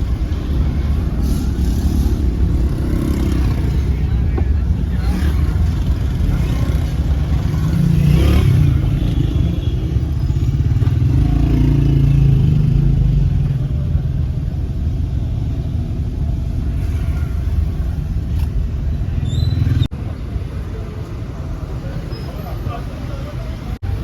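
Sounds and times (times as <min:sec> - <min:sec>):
motorcycle engines droning: 0:00.0 - 0:24.0.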